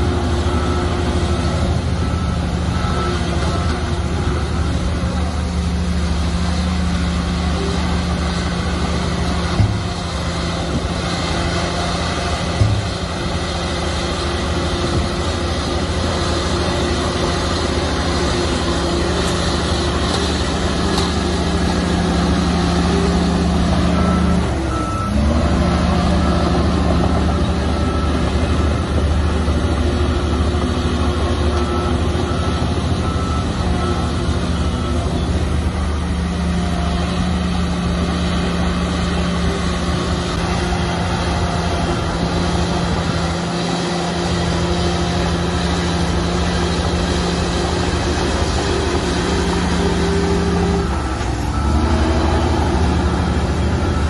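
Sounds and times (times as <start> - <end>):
heavy diesel engine running: 0.0 - 54.0
reversing alarm beeps: 0.0 - 54.0.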